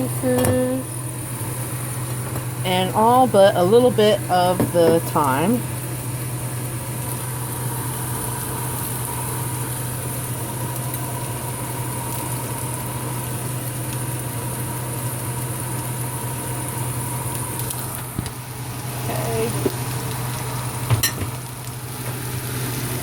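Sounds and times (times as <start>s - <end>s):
low mechanical hum: 0.0s - 23.0s
vegetables sizzling in a pan: 0.0s - 23.0s.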